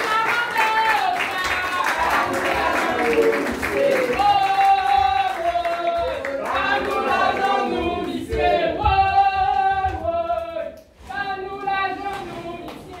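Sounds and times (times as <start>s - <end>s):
group singing long held notes: 1.9s - 13.0s.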